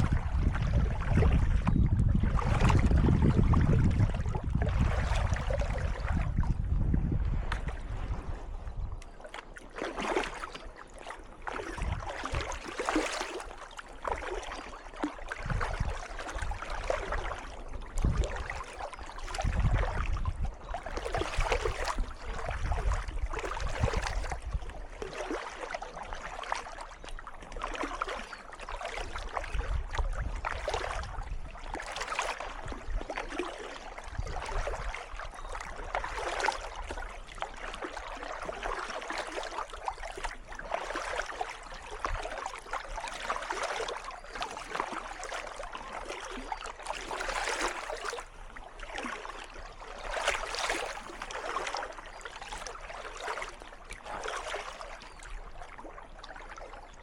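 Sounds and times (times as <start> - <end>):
faint water trickle: 0.0 - 57.0
kayak paddle splashing: 0.0 - 57.0.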